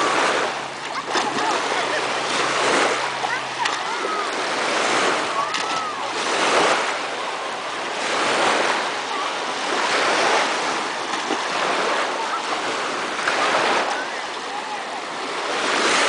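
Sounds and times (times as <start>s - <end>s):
splash from person wading: 0.0s - 7.2s, 8.0s - 13.9s
lake waves washing onto shore: 0.0s - 16.0s.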